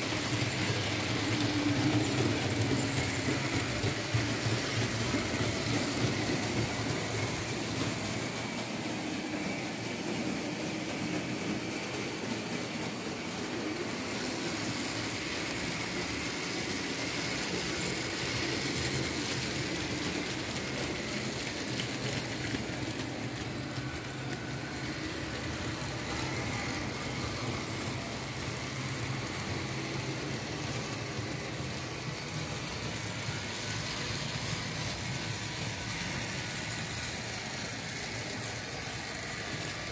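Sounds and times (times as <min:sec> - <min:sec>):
model train motor whirring: 0:00.0 - 0:39.9
wheels clicking on track: 0:00.0 - 0:39.9.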